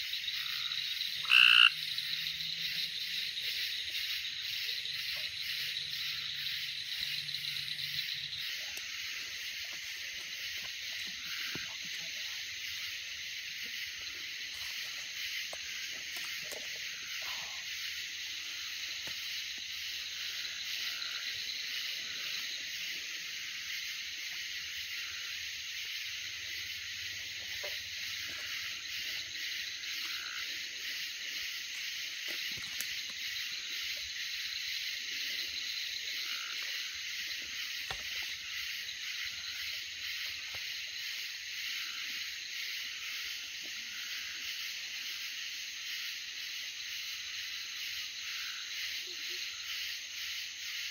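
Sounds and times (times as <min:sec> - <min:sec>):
night insects chorus: 0:00.0 - 0:50.9.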